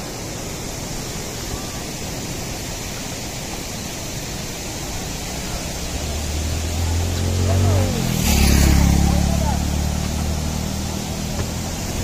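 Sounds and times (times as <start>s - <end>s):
river water rushing through gates: 0.0s - 12.0s.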